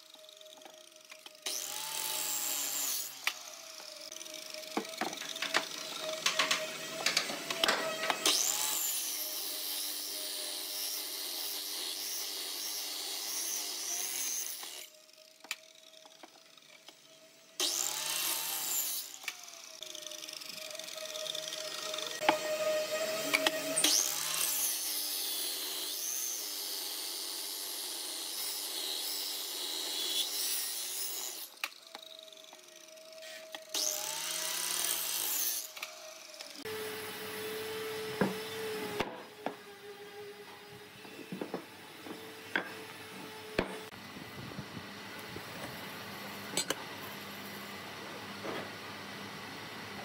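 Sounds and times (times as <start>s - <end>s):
power tool whining on wood: 0.0s - 50.0s.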